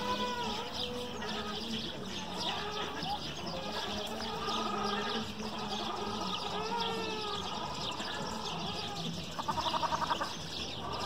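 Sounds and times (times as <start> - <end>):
gliding animal calls: 0.0 - 11.0
small birds chirping: 0.0 - 11.0.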